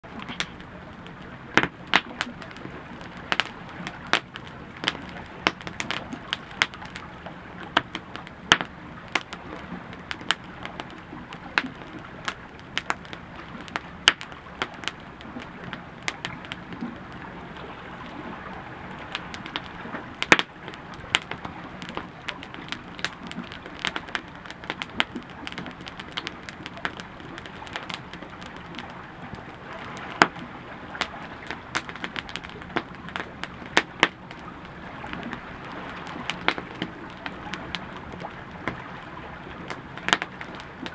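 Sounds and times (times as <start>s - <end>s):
campfire crackling and popping: 0.0s - 40.9s
low steady rush: 0.0s - 40.9s.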